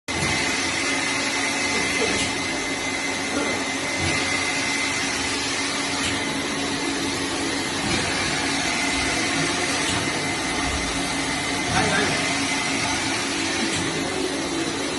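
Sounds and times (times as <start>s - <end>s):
bottle washing machine running: 0.1s - 14.9s.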